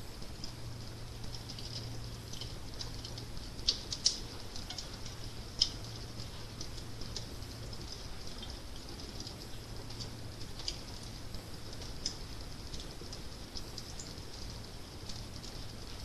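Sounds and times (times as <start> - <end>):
fire crackling and popping: 0.0 - 16.0
steady low hum: 0.0 - 16.0.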